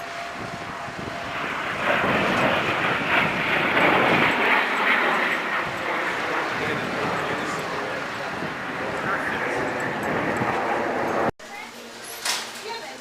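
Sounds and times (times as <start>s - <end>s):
aircraft flying past: 0.0s - 11.4s.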